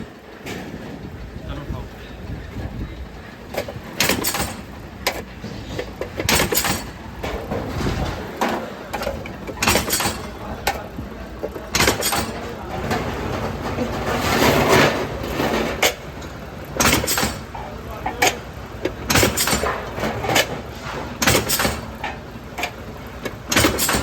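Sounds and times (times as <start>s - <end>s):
machinery noise: 0.0s - 24.0s
steel clanking and knocking: 3.4s - 24.0s.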